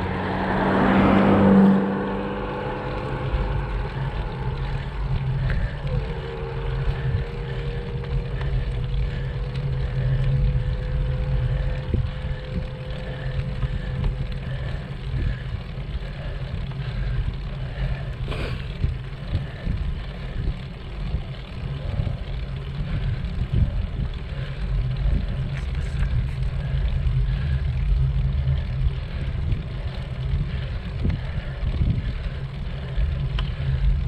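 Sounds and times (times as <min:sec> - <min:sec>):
motor vehicle passing: 0:00.0 - 0:34.0
steady hum: 0:00.0 - 0:34.0
wind rumbling on microphone: 0:00.0 - 0:34.0.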